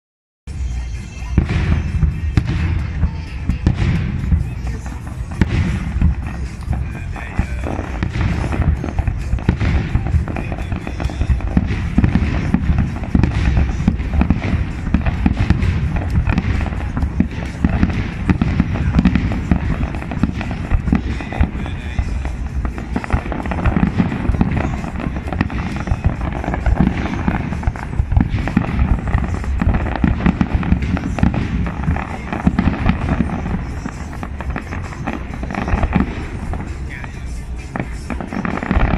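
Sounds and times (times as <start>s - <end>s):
firework shells bursting: 1.3s - 38.9s.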